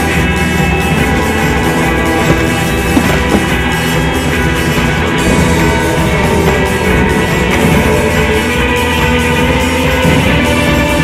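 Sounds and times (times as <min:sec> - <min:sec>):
rock music with distorted guitar: 0:00.0 - 0:11.0.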